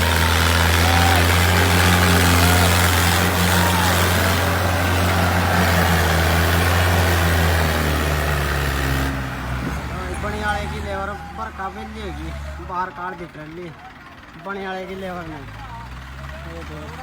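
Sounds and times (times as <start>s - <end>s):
sawmill machinery droning: 0.0s - 17.0s.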